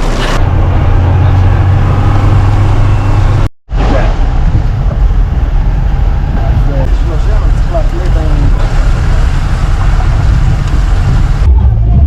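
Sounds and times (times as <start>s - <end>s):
road noise: 0.0s - 12.0s
vehicle engine rumbling: 0.0s - 12.0s.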